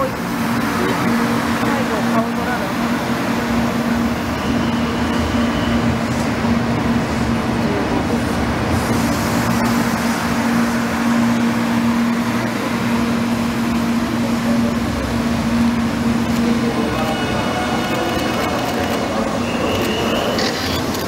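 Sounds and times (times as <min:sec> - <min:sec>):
train rolling past: 0:00.0 - 0:21.0.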